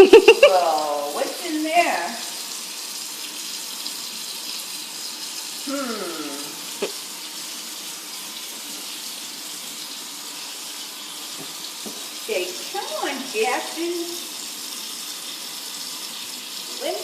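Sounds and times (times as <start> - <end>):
running water from a tap: 0.0 - 17.0.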